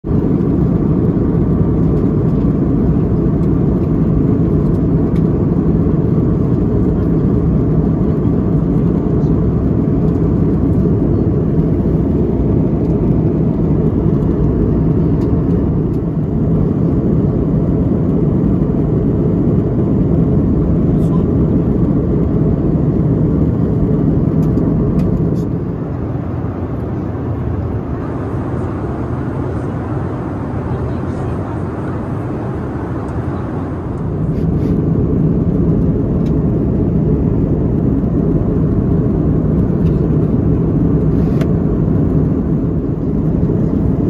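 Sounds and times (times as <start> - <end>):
airplane cabin noise: 0.0 - 44.0.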